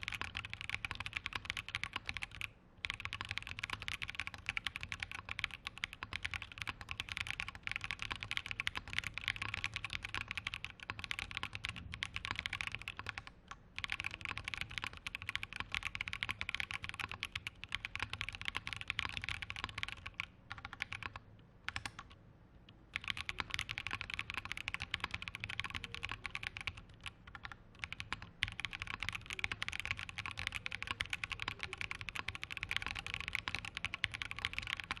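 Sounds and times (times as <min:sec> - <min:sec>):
typing on mechanical keyboard: 0:00.0 - 0:22.2, 0:22.9 - 0:35.0.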